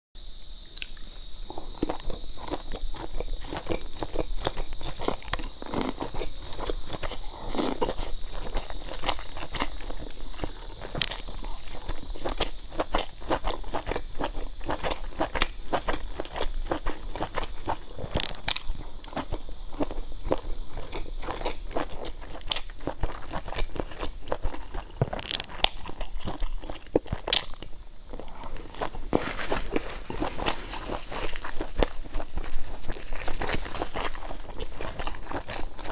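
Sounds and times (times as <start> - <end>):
steady hiss: 0.2 - 35.9
person chewing noodles: 0.8 - 35.9.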